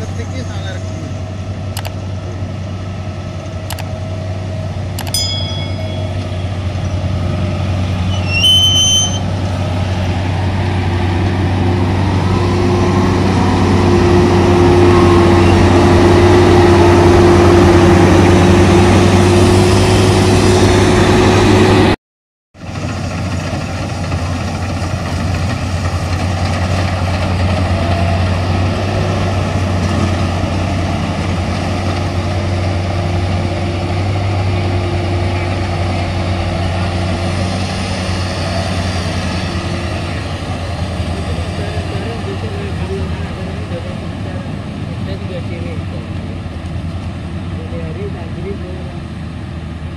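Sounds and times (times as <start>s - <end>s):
combine harvester humming: 0.0s - 22.0s, 22.6s - 49.9s.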